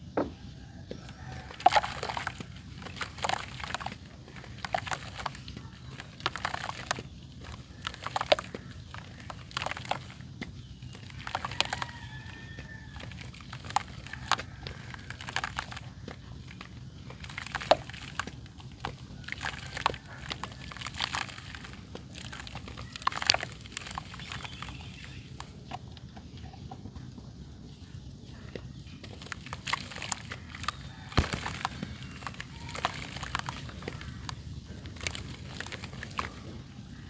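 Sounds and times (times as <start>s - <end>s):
dry clay crunching: 0.0s - 37.0s.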